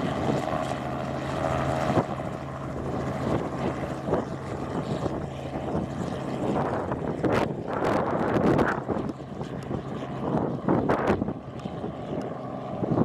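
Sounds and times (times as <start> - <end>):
helicopter hovering: 0.0 - 13.0.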